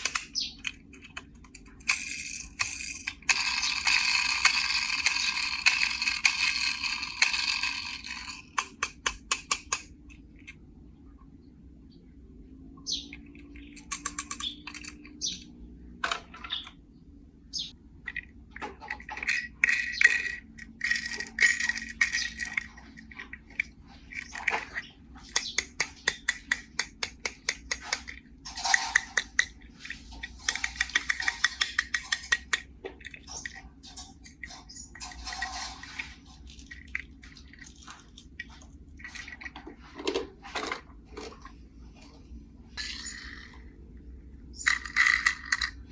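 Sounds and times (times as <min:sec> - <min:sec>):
toy cars clicking and clattering: 0:00.0 - 0:10.6, 0:13.1 - 0:15.4, 0:18.0 - 0:41.3, 0:42.8 - 0:43.7, 0:44.6 - 0:45.9.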